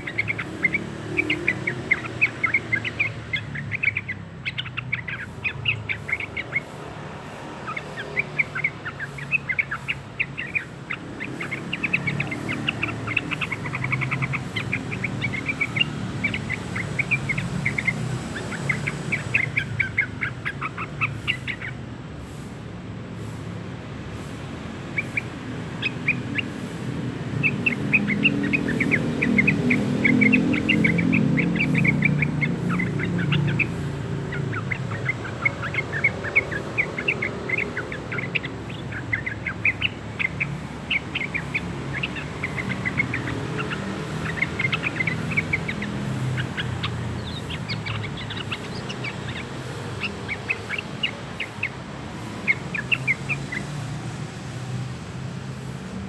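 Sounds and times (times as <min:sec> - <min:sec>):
young bird twittering: 0:00.0 - 0:22.6, 0:23.2 - 0:56.0.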